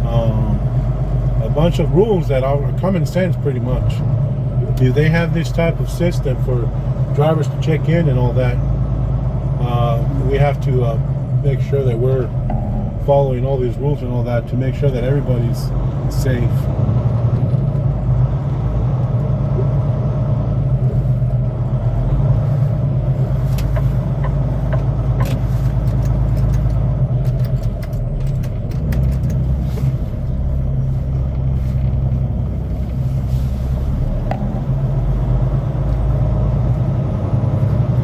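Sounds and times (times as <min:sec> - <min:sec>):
truck diesel engine humming: 0:00.0 - 0:38.0.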